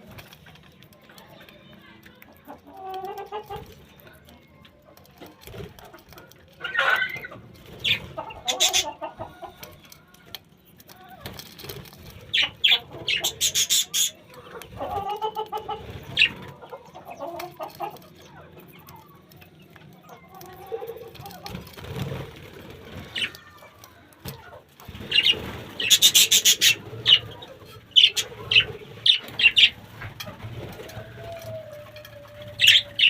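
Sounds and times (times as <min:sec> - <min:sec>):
chickens clucking: 0:00.0 - 0:33.0
small birds chirping: 0:00.0 - 0:33.0.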